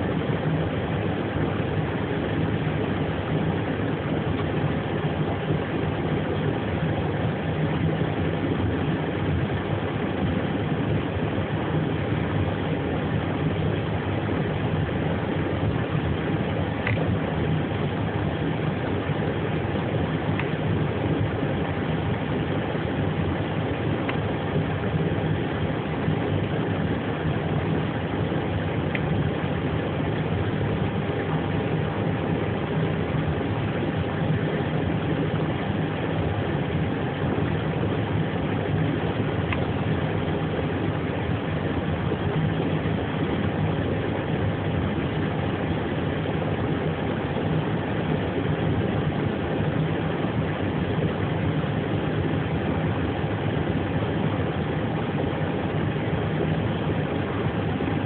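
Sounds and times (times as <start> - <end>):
airliner machinery drone: 0.0 - 58.0
faint constant tone: 0.0 - 58.0.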